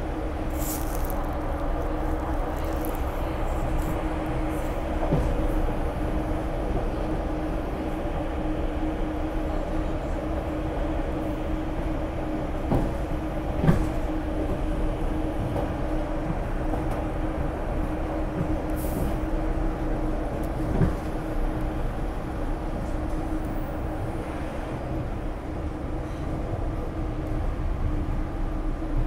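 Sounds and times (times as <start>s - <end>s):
subway train rumble: 0.0s - 29.0s.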